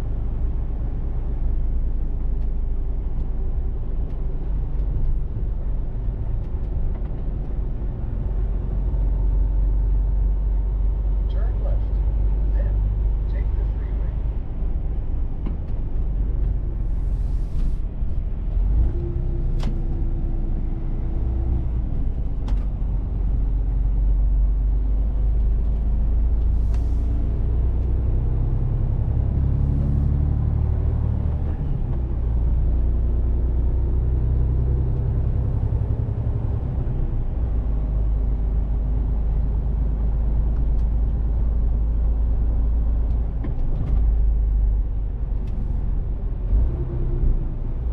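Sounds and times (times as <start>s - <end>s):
truck engine rumble: 0.0s - 47.9s.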